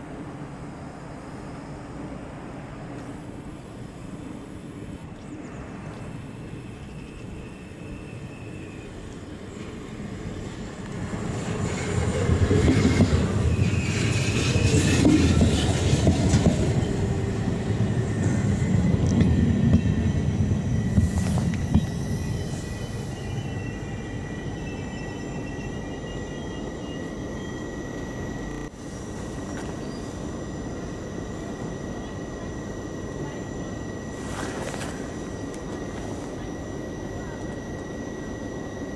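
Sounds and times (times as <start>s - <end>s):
train passing at speed: 0.0s - 38.9s
high wheel squeal: 6.5s - 10.2s, 11.1s - 38.9s.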